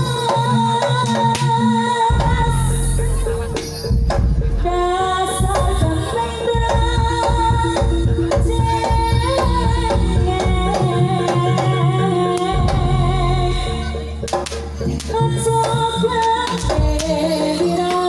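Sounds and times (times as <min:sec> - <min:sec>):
loud gamelan music: 0:00.0 - 0:18.0.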